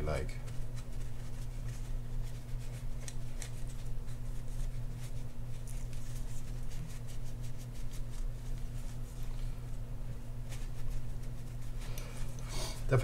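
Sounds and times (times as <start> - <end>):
steady low hum: 0.0 - 13.0
paper towel rubbing on metal: 0.4 - 13.0.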